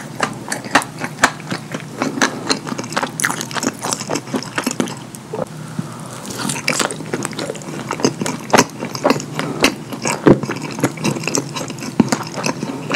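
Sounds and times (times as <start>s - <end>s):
wet chewing and lip smacking: 0.2s - 5.5s, 6.3s - 12.9s.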